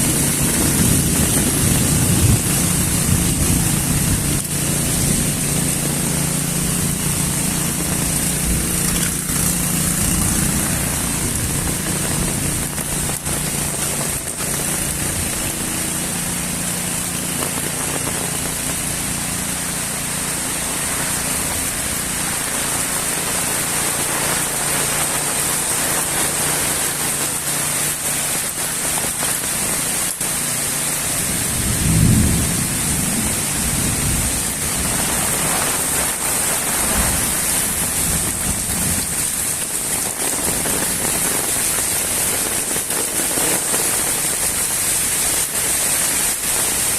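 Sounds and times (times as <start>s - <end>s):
moderate rain falling: 0.0s - 46.9s.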